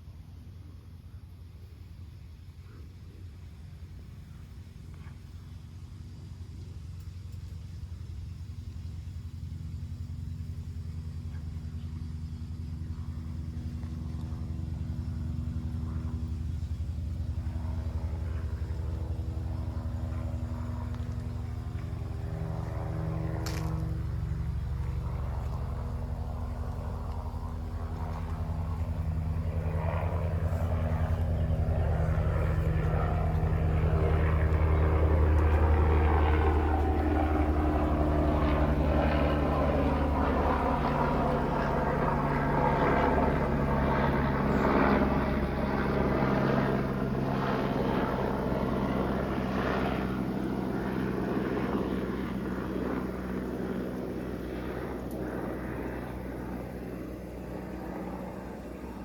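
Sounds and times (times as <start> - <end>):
propeller airplane flying over: 0.0 - 59.0.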